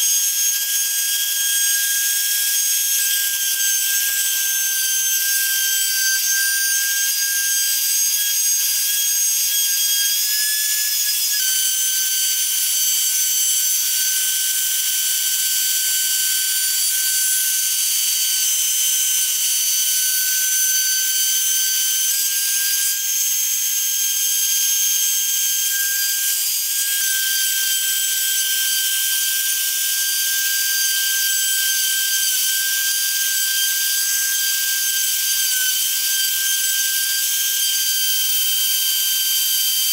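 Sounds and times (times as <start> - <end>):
router spindle high whine: 0.0 - 39.9.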